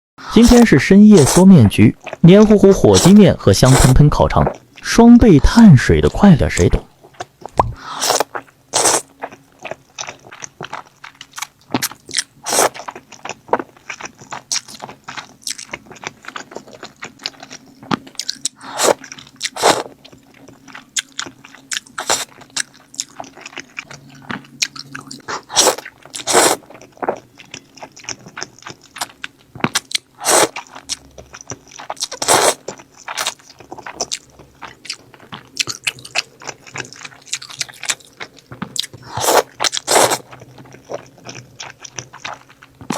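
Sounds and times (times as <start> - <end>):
person chewing: 0.3 - 4.9, 5.6 - 42.9.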